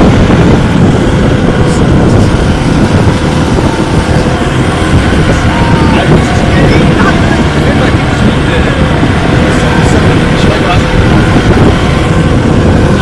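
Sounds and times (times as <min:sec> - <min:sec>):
motorboat engine running: 0:00.0 - 0:13.0
rush of wind and water: 0:00.0 - 0:13.0
wind buffeting microphone: 0:00.0 - 0:13.0.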